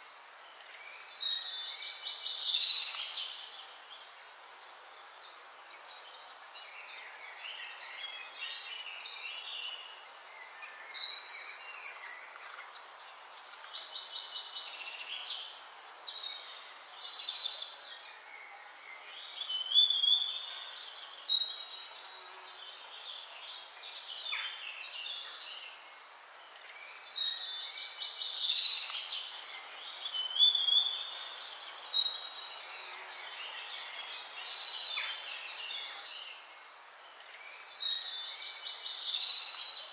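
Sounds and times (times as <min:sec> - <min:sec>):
steady hiss: 0:00.0 - 0:19.6, 0:20.2 - 0:39.9
birds singing and calling: 0:00.0 - 0:39.9.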